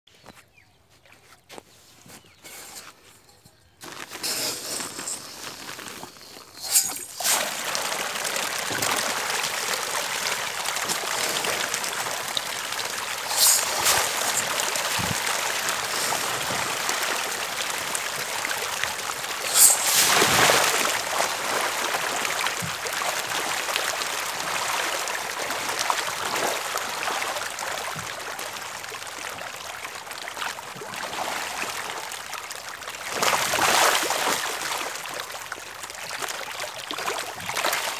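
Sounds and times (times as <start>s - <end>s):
pond water splashing: 3.8s - 37.9s.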